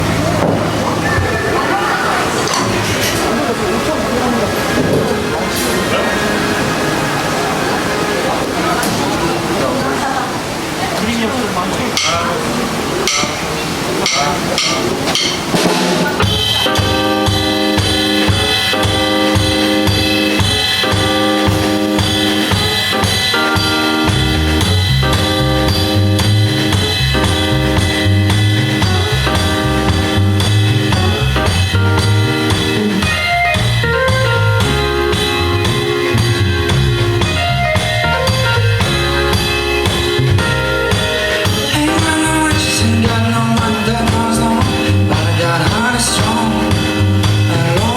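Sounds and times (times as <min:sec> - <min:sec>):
live pop band playing: 0:00.0 - 0:10.9, 0:12.0 - 0:47.9.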